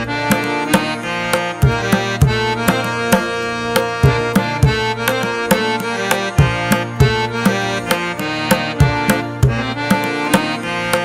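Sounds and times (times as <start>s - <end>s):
instrumental music with percussion beat: 0.0s - 11.0s.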